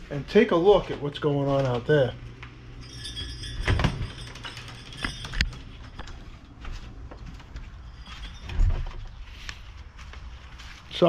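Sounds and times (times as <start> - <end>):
footsteps: 0.5 - 11.0.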